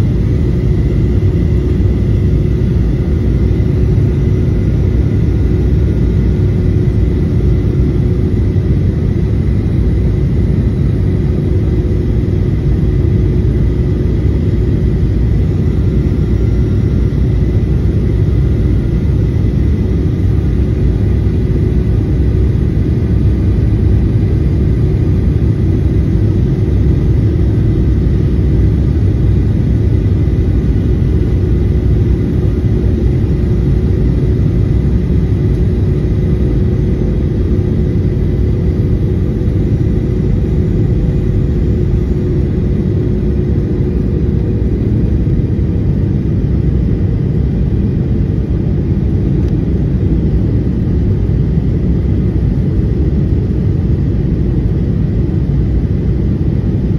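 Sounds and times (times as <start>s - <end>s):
airplane cabin engine rumble: 0.0s - 56.9s
faint humming tones: 0.0s - 56.9s.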